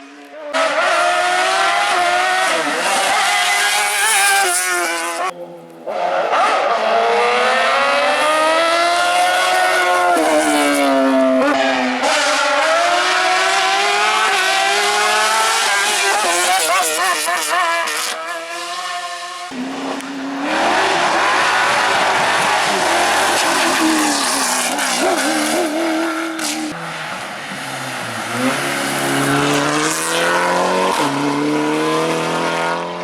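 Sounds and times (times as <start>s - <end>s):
racing car engines accelerating: 0.0s - 33.0s.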